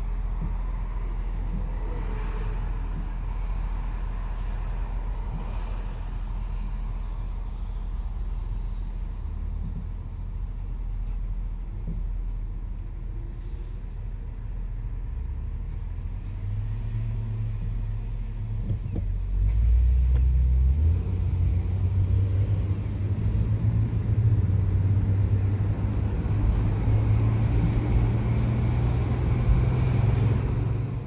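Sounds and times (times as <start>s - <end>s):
car rumbling on the move: 0.0s - 31.0s.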